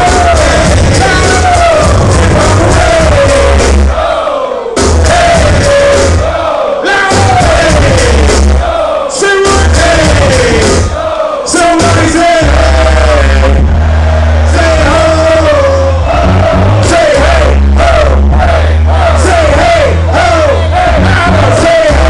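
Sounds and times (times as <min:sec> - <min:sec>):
heavy bass line: 0:00.0 - 0:11.0, 0:11.6 - 0:22.0
crowd voices: 0:00.0 - 0:22.0
hip-hop music over pa: 0:00.0 - 0:22.0.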